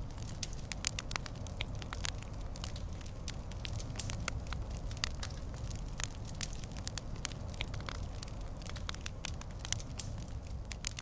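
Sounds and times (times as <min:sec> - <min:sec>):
campfire crackling: 0:00.0 - 0:11.0
low steady rumble: 0:00.0 - 0:11.0.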